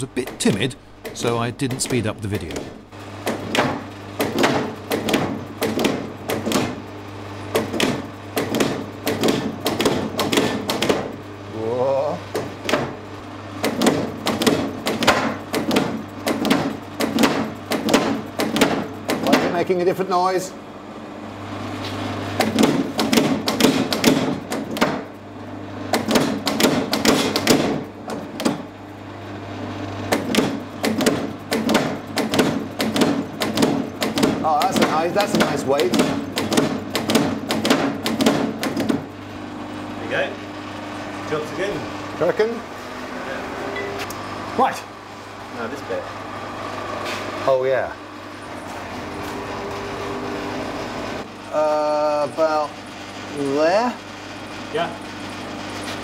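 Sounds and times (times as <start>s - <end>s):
hammer motor humming: 0.0s - 20.2s, 22.2s - 56.0s.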